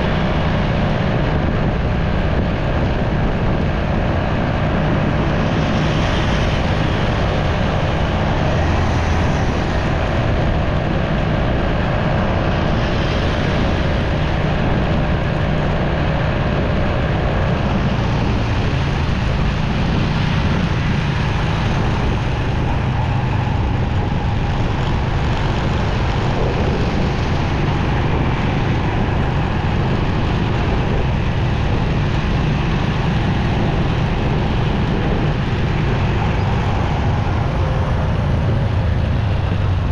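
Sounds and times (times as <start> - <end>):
traffic noise: 0.0 - 39.9
wind rush: 0.0 - 39.9.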